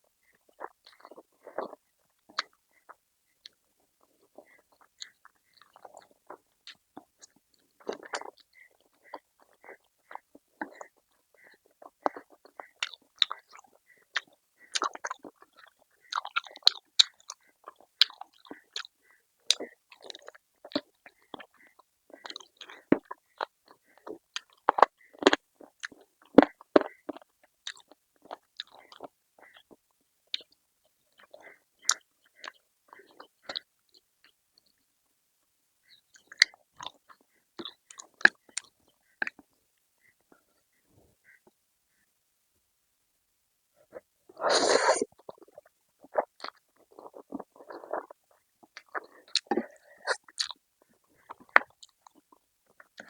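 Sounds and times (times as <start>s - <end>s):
chewing food: 0.2s - 34.9s, 35.9s - 41.6s, 43.8s - 53.0s.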